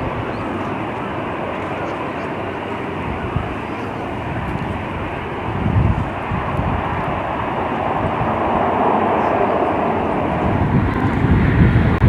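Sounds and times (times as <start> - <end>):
airliner engines rushing: 0.0 - 12.0
wind buffeting the microphone: 0.0 - 12.0.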